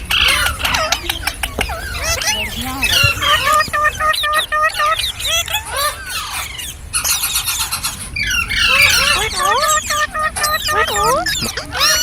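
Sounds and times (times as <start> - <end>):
parrot chirping: 0.0 - 12.0.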